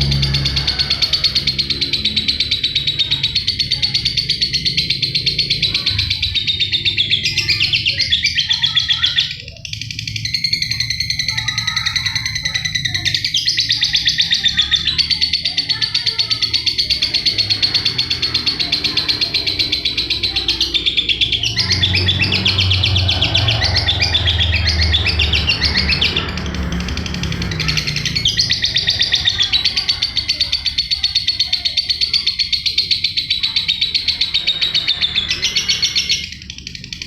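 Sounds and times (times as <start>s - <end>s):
lovebird chattering song: 0.0s - 37.0s.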